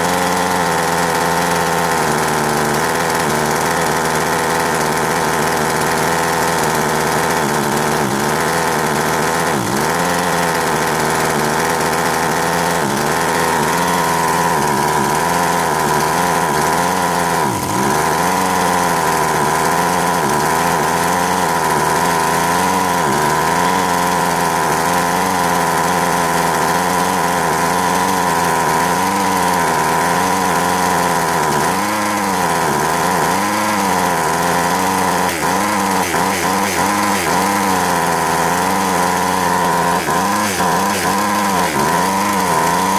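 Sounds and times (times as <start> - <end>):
chainsaw engine running: 0.0 - 42.9.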